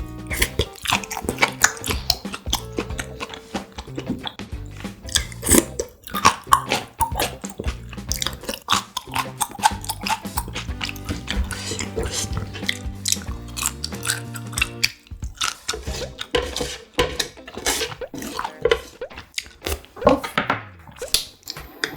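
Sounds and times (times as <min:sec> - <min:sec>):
background music: 0:00.0 - 0:21.9
eating sounds: 0:00.0 - 0:21.9
chopsticks clicking against dishes: 0:00.2 - 0:20.4.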